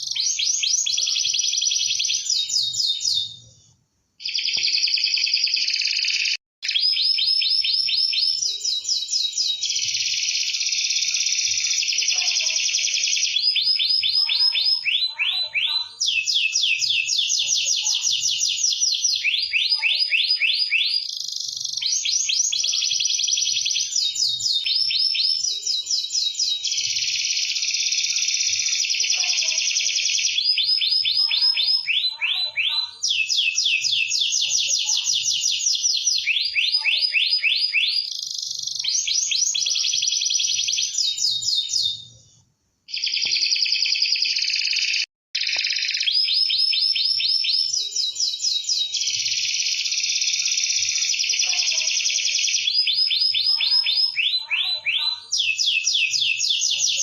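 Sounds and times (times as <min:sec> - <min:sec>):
canary singing fast trills: 0:00.0 - 0:03.6, 0:04.2 - 0:57.0.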